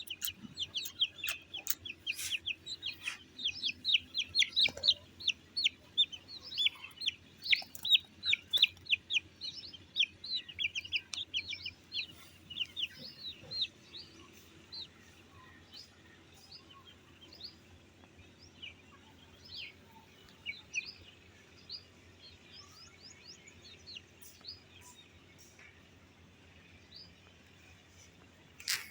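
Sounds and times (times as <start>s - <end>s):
chicks peeping: 0.0s - 25.6s, 28.0s - 28.9s.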